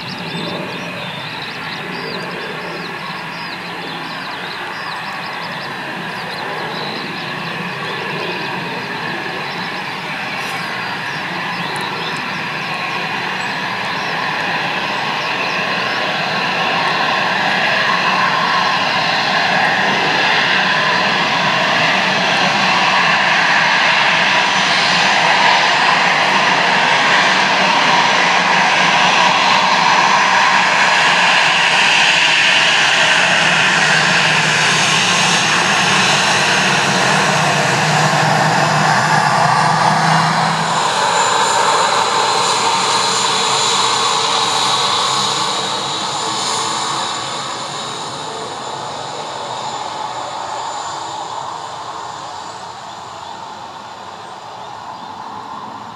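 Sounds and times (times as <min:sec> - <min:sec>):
jet engines whining: 0:00.0 - 0:55.9.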